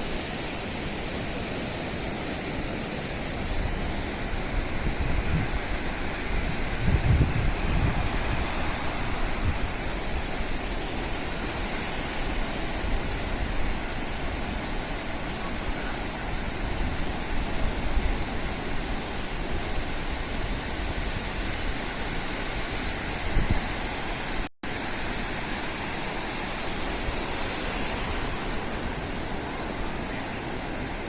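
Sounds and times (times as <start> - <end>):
sea surf rushing on beach: 0.0 - 31.0
wind rumble on microphone: 3.2 - 31.0.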